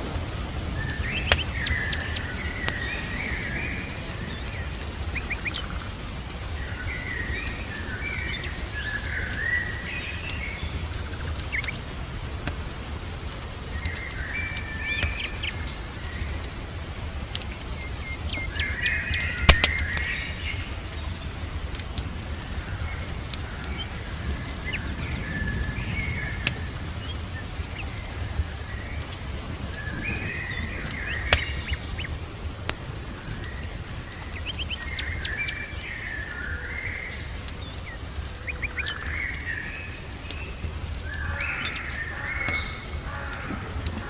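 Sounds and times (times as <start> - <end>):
birds chirping: 0.0 - 44.0
steady low rumble: 0.0 - 44.0
wood fire popping and crackling: 0.0 - 44.0.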